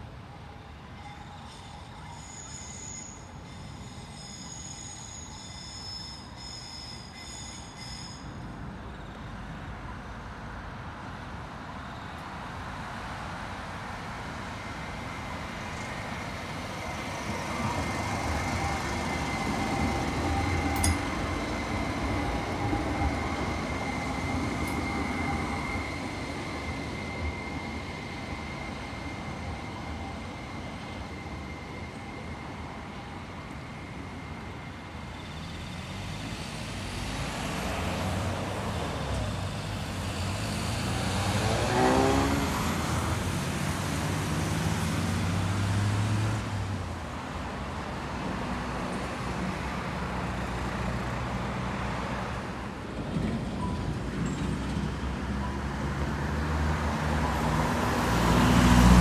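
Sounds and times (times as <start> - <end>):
tram rumbling past: 0.0 - 59.0.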